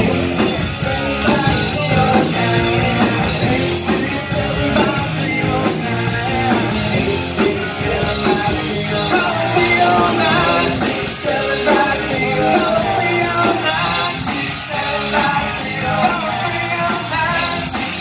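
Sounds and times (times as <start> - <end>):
distorted electric guitars: 0.0 - 18.0
drum kit: 0.0 - 18.0
electric bass: 0.0 - 18.0.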